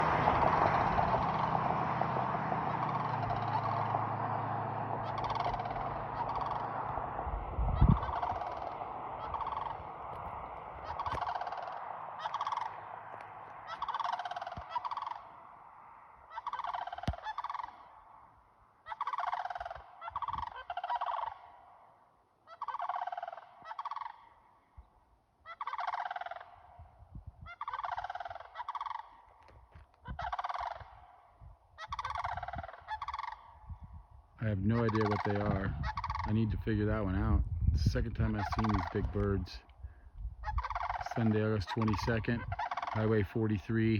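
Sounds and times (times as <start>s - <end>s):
large birds harsh calls: 1.0s - 18.2s, 18.8s - 26.8s, 27.4s - 33.7s, 34.8s - 36.3s, 40.0s - 43.0s.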